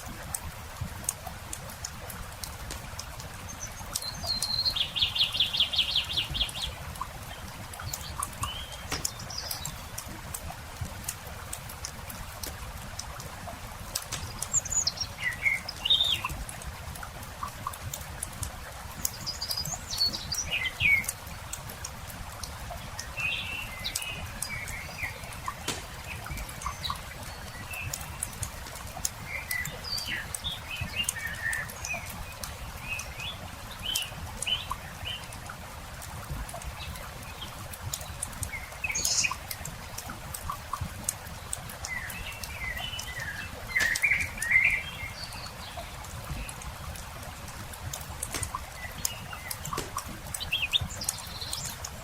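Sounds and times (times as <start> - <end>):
campfire crackling and popping: 0.0 - 52.0
small birds chirping: 1.0 - 35.6, 36.6 - 52.0.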